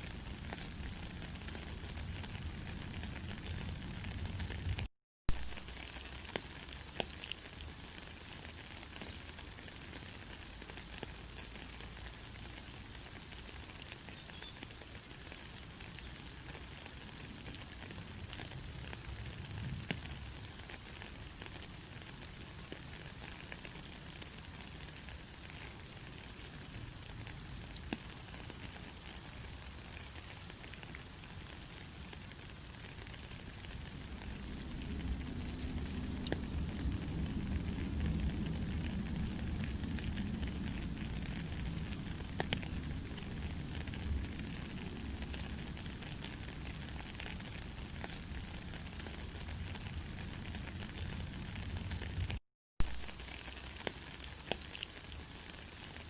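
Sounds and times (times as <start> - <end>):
white-noise hiss with crackles: 0.0 - 56.0.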